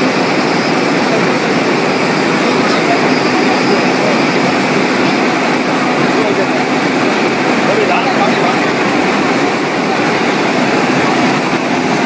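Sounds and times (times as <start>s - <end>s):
fume extractor rushing air: 0.0s - 12.0s
thin high whine: 0.0s - 12.0s.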